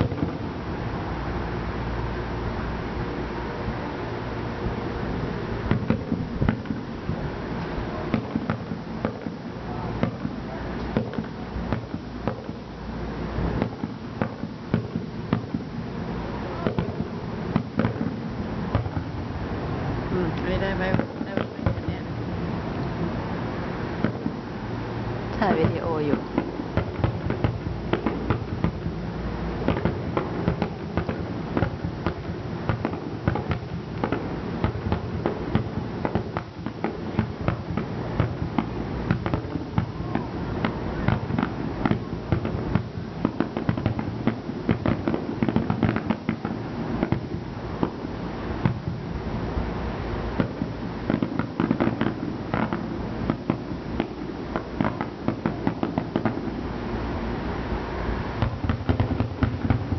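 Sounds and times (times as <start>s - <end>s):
firework shells bursting: 0.0s - 0.8s, 5.6s - 12.7s, 13.4s - 19.4s, 20.1s - 23.2s, 25.3s - 49.2s, 50.3s - 56.6s, 58.4s - 59.9s.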